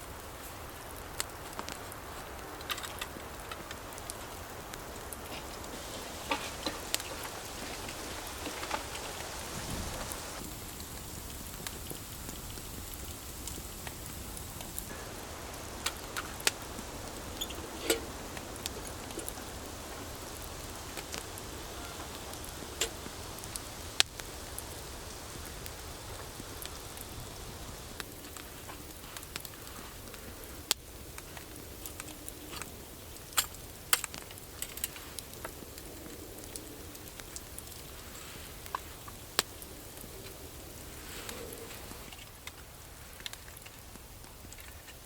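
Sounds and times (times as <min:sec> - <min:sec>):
campfire crackling and popping: 0:00.0 - 0:45.0
fire hissing: 0:00.0 - 0:45.0.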